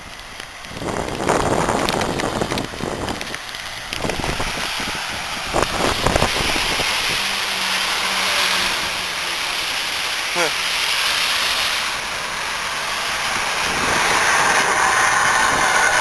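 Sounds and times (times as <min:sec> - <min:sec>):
low engine hum: 0:00.0 - 0:16.0
tyres hissing through slush: 0:00.0 - 0:16.0.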